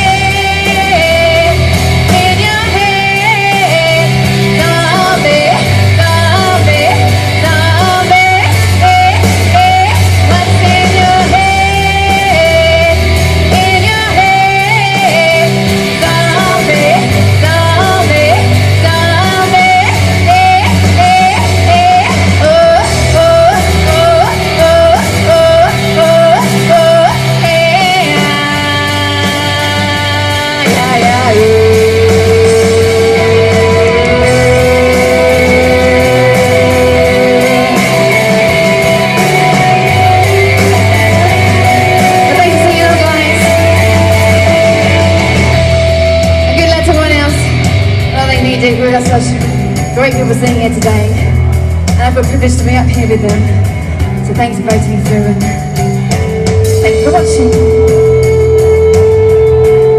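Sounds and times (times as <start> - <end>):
loud rock accompaniment: 0.0 - 59.9
woman singing rock song: 0.0 - 59.9.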